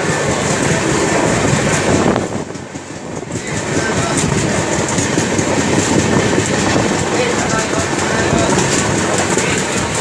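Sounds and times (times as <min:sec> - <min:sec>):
rushing air: 0:00.0 - 0:10.0
train wheels rumbling on track: 0:00.0 - 0:10.0.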